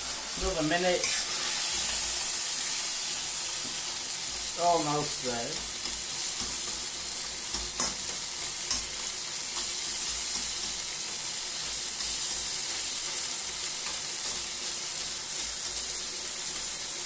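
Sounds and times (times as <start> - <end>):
meat sizzling in a pan: 0.0 - 17.0.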